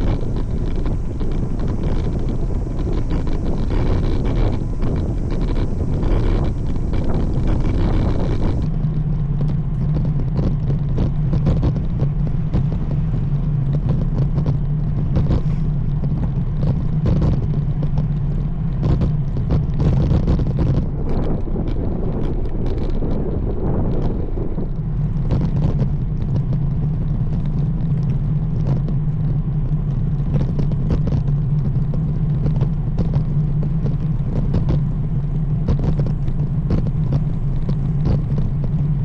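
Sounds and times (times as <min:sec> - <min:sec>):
bike road rumble: 0:00.0 - 0:39.0
steady low hum: 0:00.0 - 0:39.0
wind over microphone: 0:00.0 - 0:39.0.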